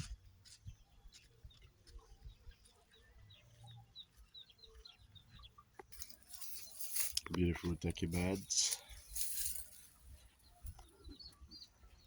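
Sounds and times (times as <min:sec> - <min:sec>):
faint bird chirping: 0:00.1 - 0:12.0.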